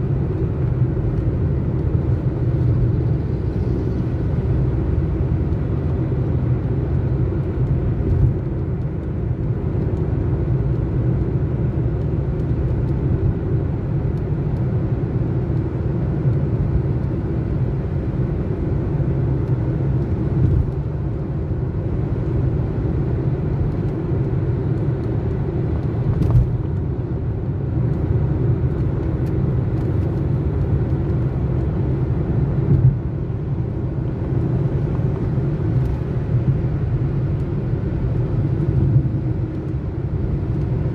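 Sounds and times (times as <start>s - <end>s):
car tyres and engine rumble: 0.0s - 40.9s.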